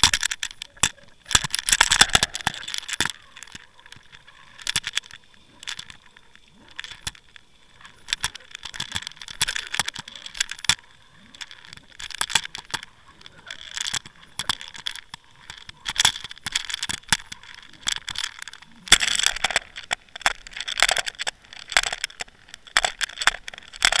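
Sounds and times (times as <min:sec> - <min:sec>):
underwater clicking and crackling: 0:00.0 - 0:24.0.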